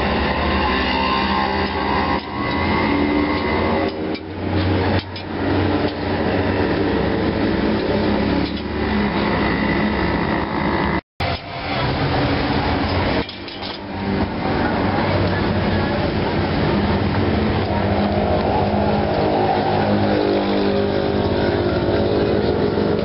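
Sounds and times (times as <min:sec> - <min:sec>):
gas burner roaring: 0:00.0 - 0:23.0.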